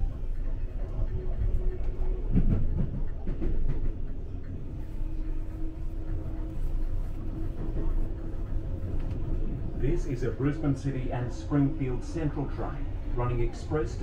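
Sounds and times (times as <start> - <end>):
train carriage rumbling on track: 0.0 - 14.0.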